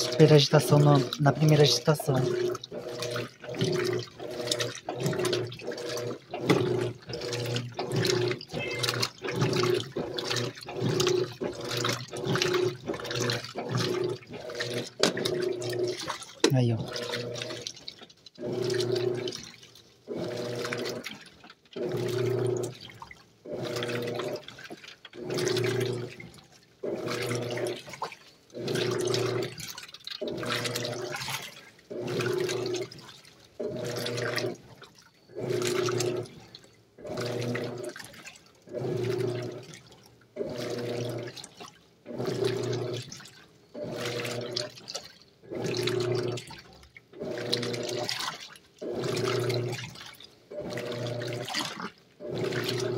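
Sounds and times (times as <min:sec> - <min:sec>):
washing machine motor humming: 0:00.0 - 0:52.9
water and clothes sloshing: 0:00.0 - 0:52.9.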